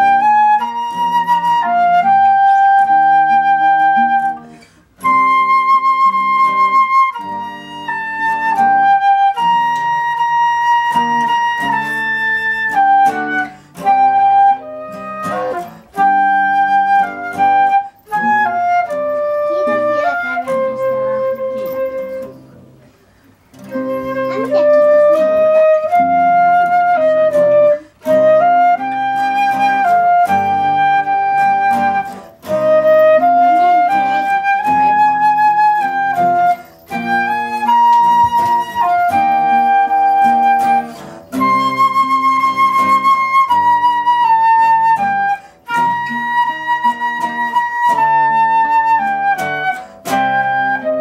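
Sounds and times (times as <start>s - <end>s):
flute playing slow melody: 0.0s - 22.4s, 23.6s - 51.0s
classical guitars plucking chords: 0.0s - 51.0s.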